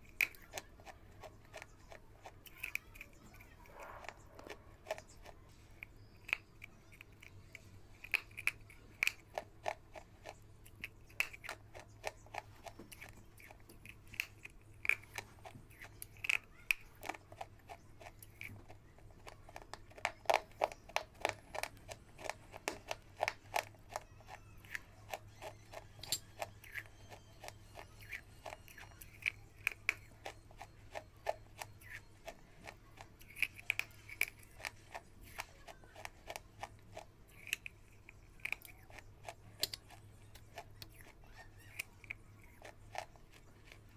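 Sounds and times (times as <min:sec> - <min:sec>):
faint low hum: 0:00.0 - 0:43.9
person chewing crunchy food: 0:00.0 - 0:43.9.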